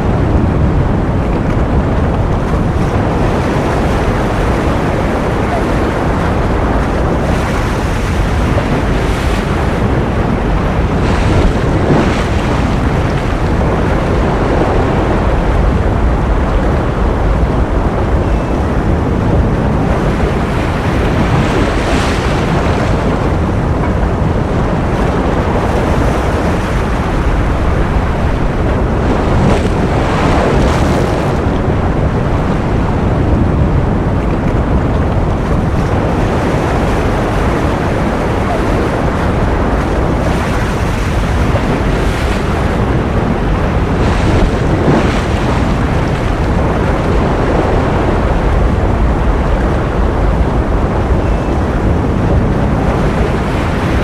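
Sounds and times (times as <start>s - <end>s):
ocean surf rushing: 0.0s - 54.0s.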